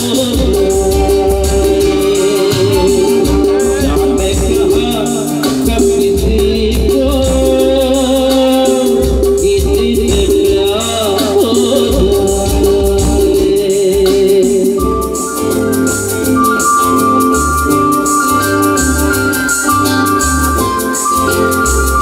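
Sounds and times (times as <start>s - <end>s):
live band music: 0.0s - 22.0s
man singing into a microphone: 0.0s - 22.0s.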